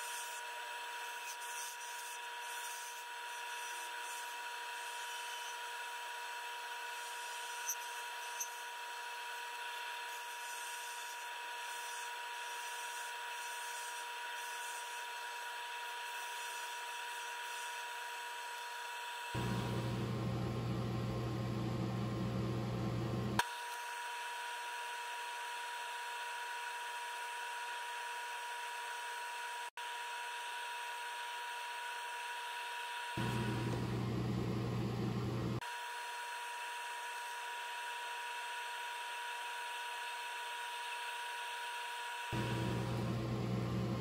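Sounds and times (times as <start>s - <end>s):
wood lathe motor whine: 0.0s - 44.0s.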